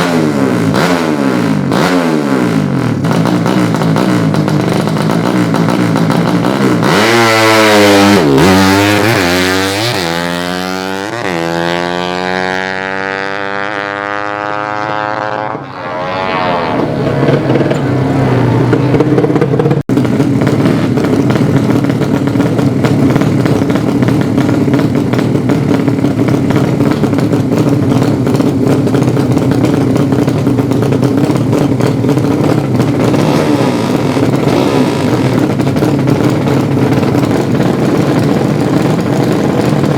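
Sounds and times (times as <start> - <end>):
motorcycle engine running steadily: 0.0 - 15.6, 16.6 - 39.9
motorcycle accelerating through gears: 0.0 - 39.9.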